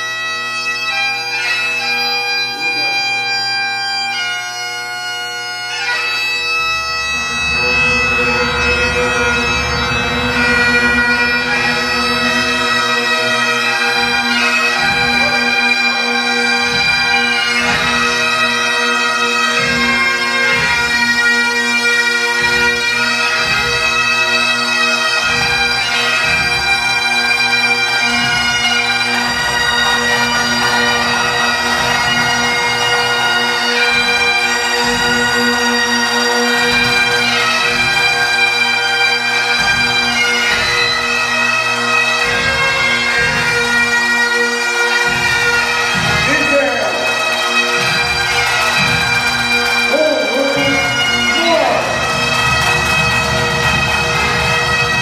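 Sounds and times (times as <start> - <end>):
bagpipes playing slow melody: 0.0 - 55.0.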